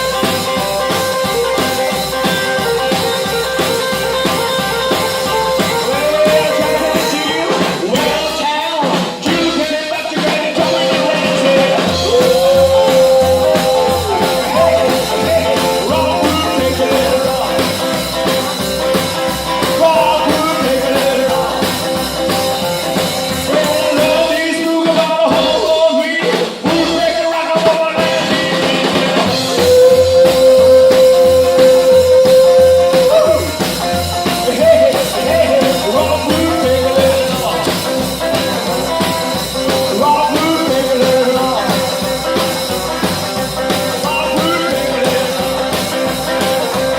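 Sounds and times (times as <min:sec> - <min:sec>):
lead guitar bending notes: 0:00.0 - 0:08.2, 0:10.6 - 0:24.3, 0:28.0 - 0:46.9
walking bass line: 0:00.0 - 0:08.5, 0:10.4 - 0:27.2, 0:27.9 - 0:46.9
drums: 0:00.0 - 0:46.9.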